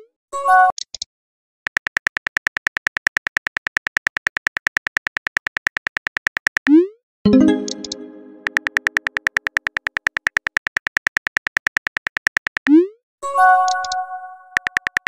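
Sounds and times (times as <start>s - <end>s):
keyboard typing clicks: 1.7s - 12.8s, 13.6s - 15.0s.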